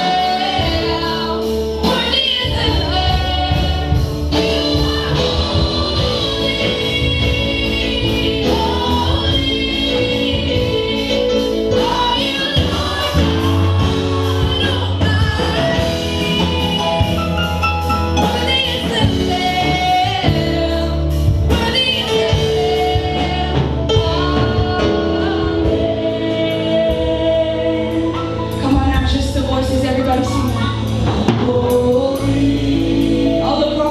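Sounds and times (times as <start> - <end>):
group singing gospel song: 0.0 - 33.9
instrumental accompaniment with bass: 0.0 - 33.9.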